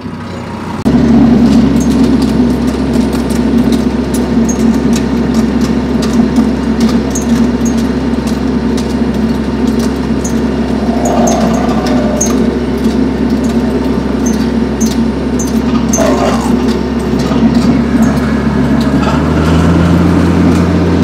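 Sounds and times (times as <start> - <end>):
tractor diesel engine drone: 0.0 - 21.0.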